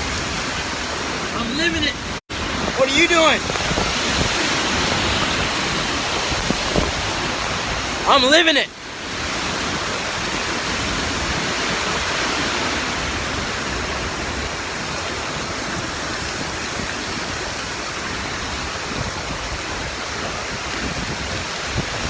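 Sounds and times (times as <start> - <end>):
wind and rain rushing: 0.0 - 22.0.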